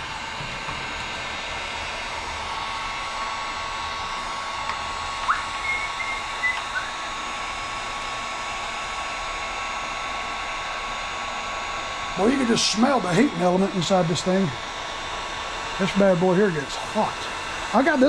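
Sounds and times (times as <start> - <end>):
heat gun blowing: 0.0 - 18.0.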